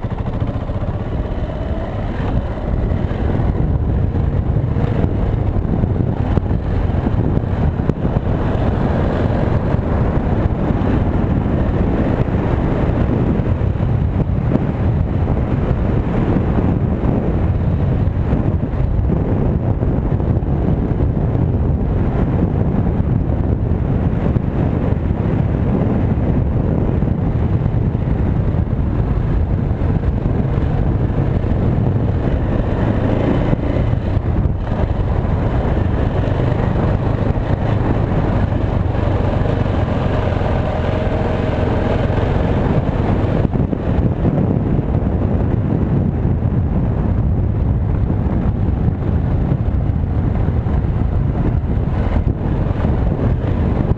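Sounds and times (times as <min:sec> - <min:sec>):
motorcycle engine riding: 0:00.0 - 0:53.9.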